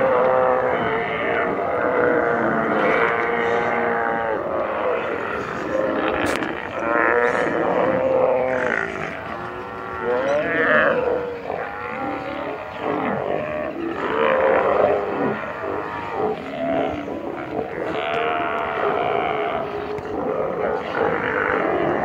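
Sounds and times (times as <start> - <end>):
sea lions calling in chorus: 0.0 - 22.0.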